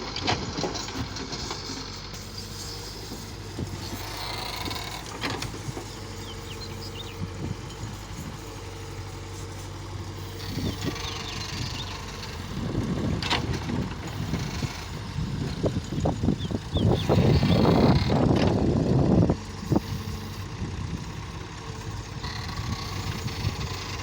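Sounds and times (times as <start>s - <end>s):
heavy machine engine running: 0.0s - 24.0s
uneven rumbling: 2.1s - 24.0s.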